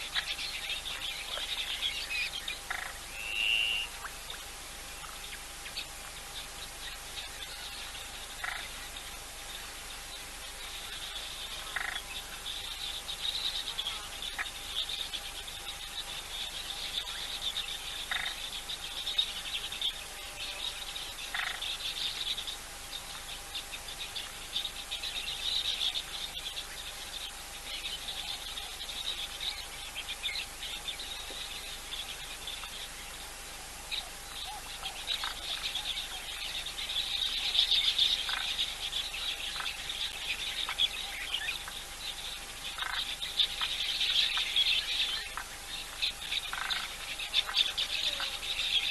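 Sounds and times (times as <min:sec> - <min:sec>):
faint steady hum: 0:00.0 - 0:48.9
frogs and insects chorus: 0:00.0 - 0:48.9.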